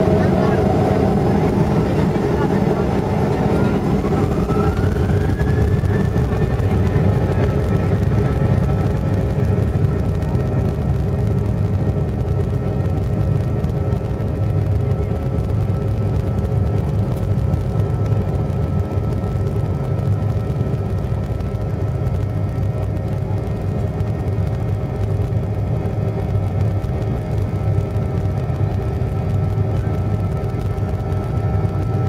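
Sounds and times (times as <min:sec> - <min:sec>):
engine whining tones: 0:00.0 - 0:32.0
jet cabin low rumble: 0:00.0 - 0:32.0.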